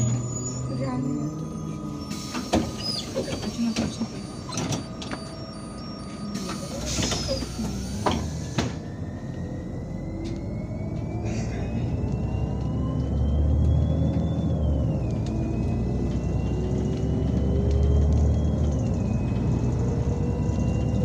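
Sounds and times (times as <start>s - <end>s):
bus engine hum: 0.0s - 21.0s.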